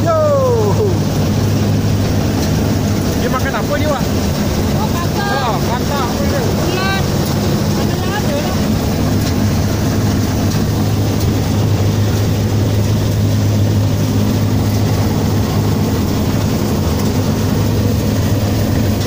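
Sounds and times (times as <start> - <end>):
combine harvester engine hum: 0.0 - 19.0
harvester mechanical noise: 0.0 - 19.0.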